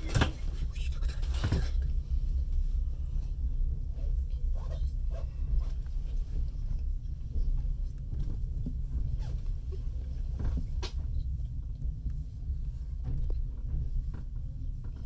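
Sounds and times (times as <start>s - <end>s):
train carriage low rumble: 0.0s - 15.0s.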